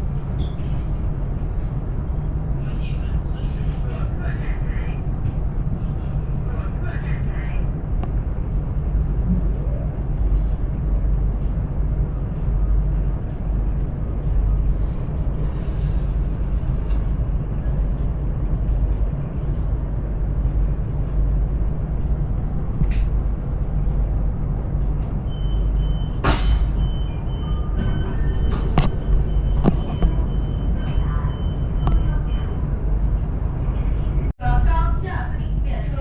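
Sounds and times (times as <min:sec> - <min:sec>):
train running rumble: 0:00.0 - 0:36.0.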